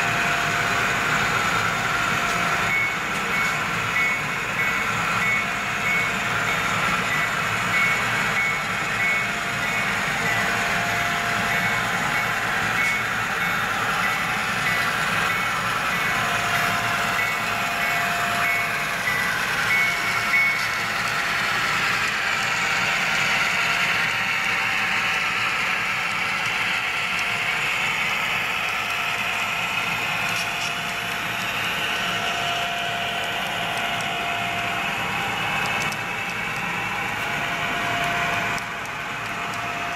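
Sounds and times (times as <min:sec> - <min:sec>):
model train running: 0:00.0 - 0:39.9.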